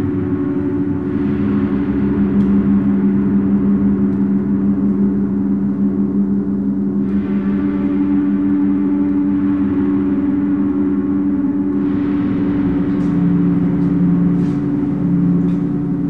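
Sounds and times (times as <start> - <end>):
low drone tones: 0.0 - 16.0.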